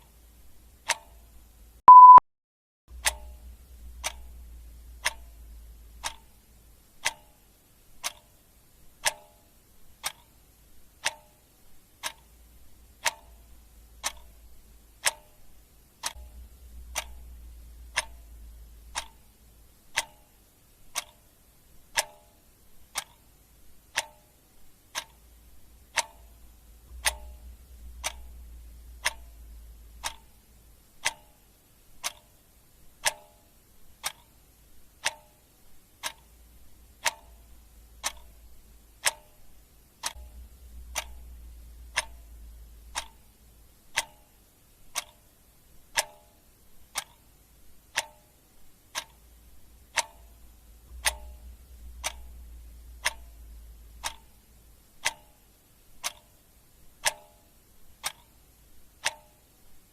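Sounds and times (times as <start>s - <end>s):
clock ticking: 0.0s - 2.2s, 2.9s - 59.9s
faint low hum: 2.9s - 59.9s.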